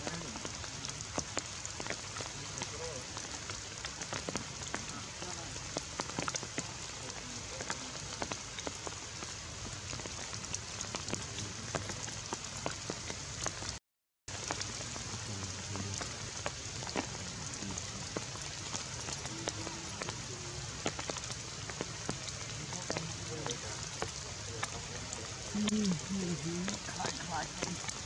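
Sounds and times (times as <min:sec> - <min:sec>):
close raindrop ticks: 0:00.0 - 0:28.0
steady rain falling: 0:00.0 - 0:28.0.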